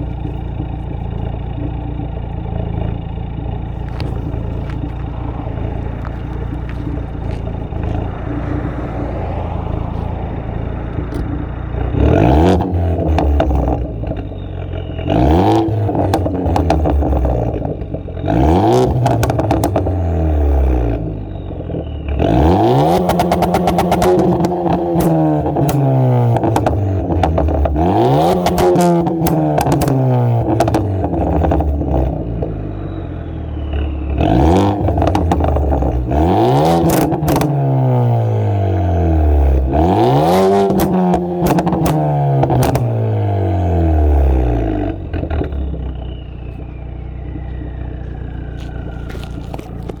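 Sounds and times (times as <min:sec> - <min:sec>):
car engine revving: 0:00.0 - 0:50.0
exhaust pops and crackles: 0:00.0 - 0:50.0.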